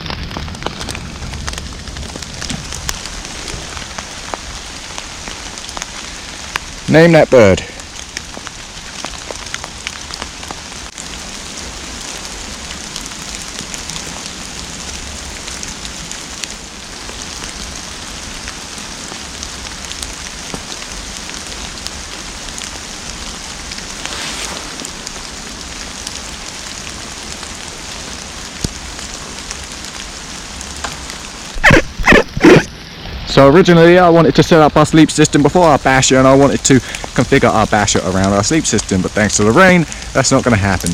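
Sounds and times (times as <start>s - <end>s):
raindrops tapping: 0.0s - 32.7s, 33.3s - 40.9s
rain falling in woodland: 0.0s - 40.9s.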